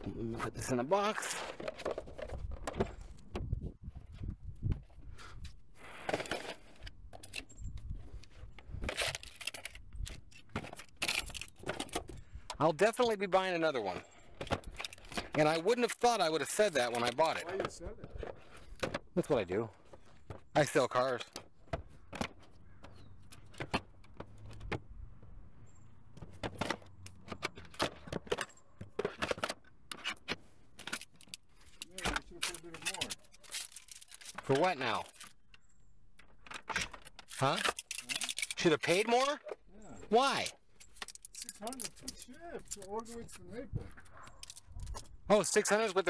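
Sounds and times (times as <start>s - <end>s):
small hard items clicking and rattling: 0.0s - 3.3s, 6.0s - 24.7s, 26.1s - 46.0s.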